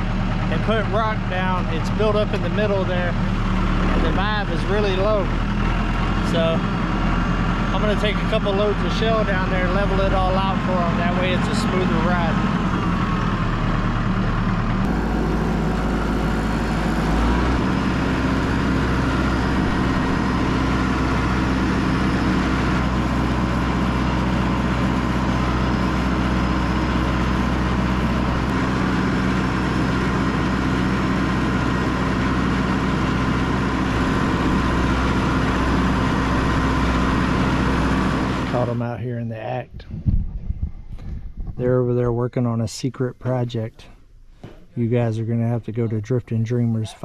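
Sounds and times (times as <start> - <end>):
tyres on gravel road: 0.0 - 39.2, 42.7 - 46.4
diesel tractor engine running: 0.0 - 40.0.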